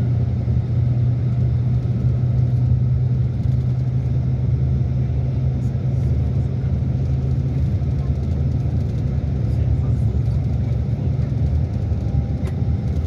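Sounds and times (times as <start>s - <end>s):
low rumble with hum: 0.0s - 13.0s.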